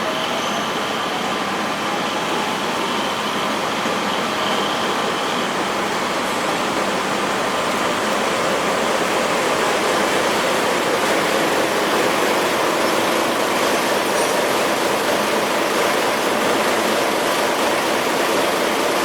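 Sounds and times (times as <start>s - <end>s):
train coach running noise: 0.0s - 19.0s.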